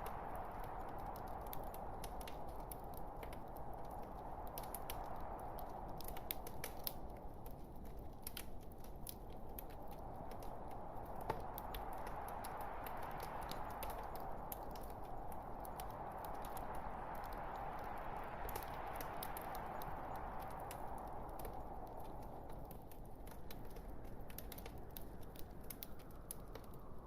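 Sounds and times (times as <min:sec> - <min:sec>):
logs crackling and popping: 0:00.0 - 0:27.0.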